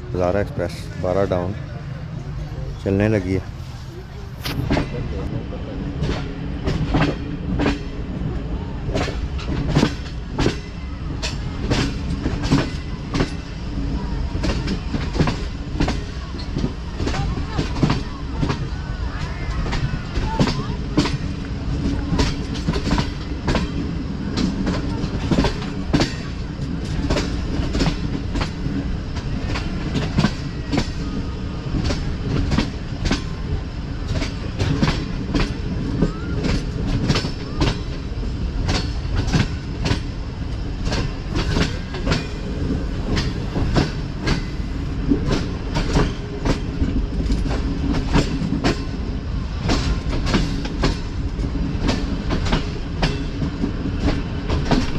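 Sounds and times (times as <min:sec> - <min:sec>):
train wheels rumbling on rails: 0:00.0 - 0:54.9
wheels clacking over rail joints: 0:06.0 - 0:54.9.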